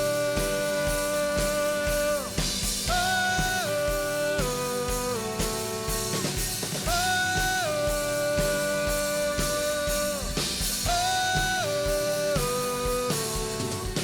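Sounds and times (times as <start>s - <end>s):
kick drum beating: 0.0s - 14.0s.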